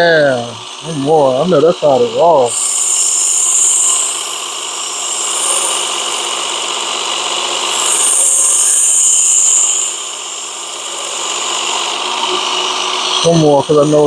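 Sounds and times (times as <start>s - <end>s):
belt sharpener running: 2.0s - 14.0s.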